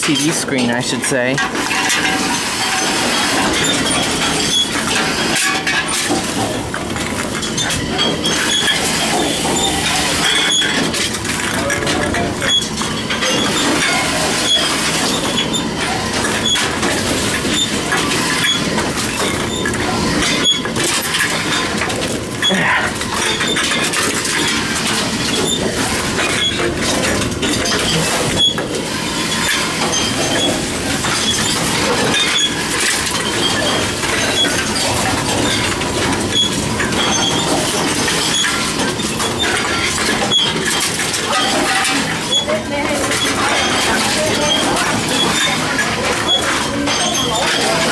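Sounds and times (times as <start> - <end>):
vending machine clattering: 0.0 - 47.9.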